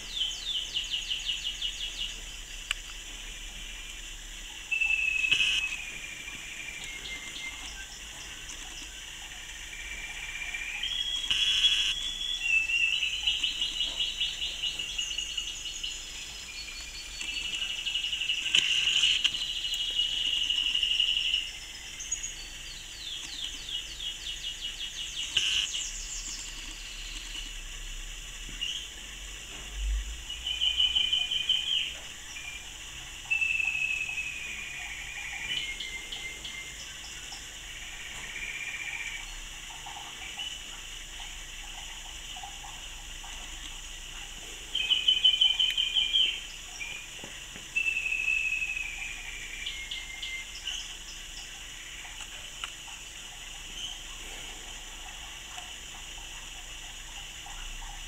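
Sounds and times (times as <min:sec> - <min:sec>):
canaries singing: 0:00.0 - 0:27.6, 0:28.5 - 0:58.0.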